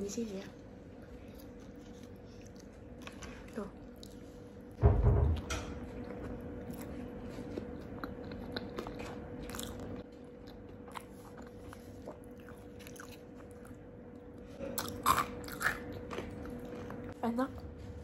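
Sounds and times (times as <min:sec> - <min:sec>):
faint steady hum: 0:00.0 - 0:18.0
person chewing: 0:00.9 - 0:04.7, 0:05.7 - 0:17.2.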